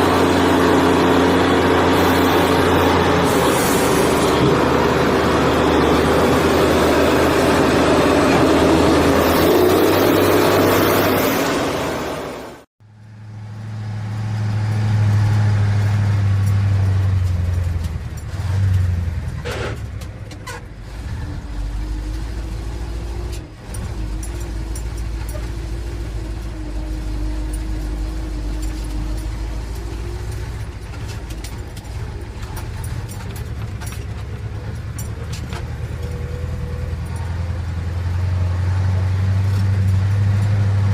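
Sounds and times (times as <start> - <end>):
low motor hum: 0.0 - 40.9.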